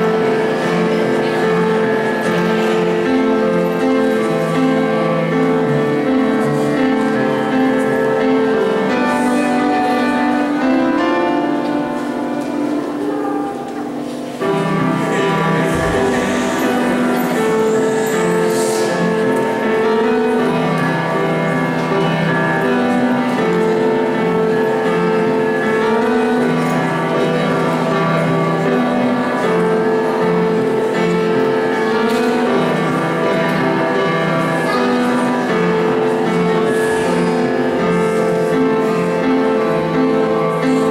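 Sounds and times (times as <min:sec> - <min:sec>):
upright piano chords: 0:00.0 - 0:40.9.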